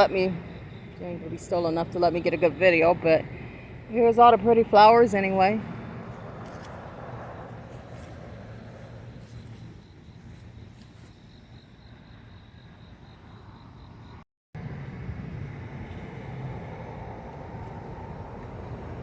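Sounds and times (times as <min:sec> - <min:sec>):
low rumble like distant traffic: 0:00.0 - 0:19.0.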